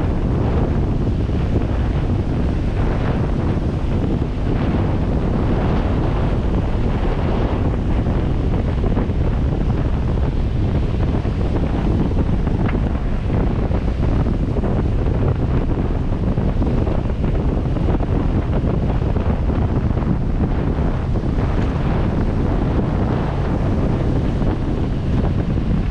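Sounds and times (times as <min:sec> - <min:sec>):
vehicle driving noise: 0:00.0 - 0:25.9
wind buffeting microphone: 0:00.0 - 0:25.9.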